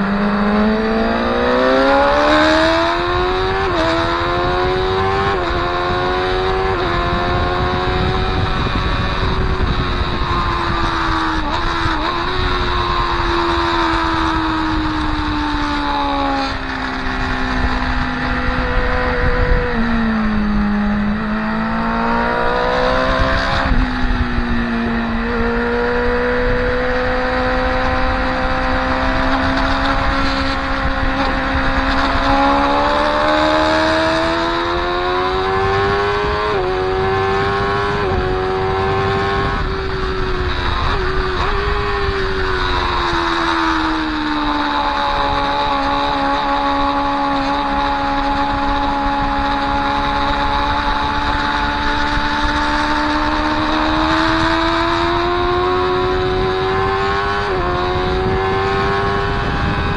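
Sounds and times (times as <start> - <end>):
motorcycle engine: 0.0 - 59.9
motorcycle gear changes: 0.0 - 59.9
wind rush: 0.0 - 59.9.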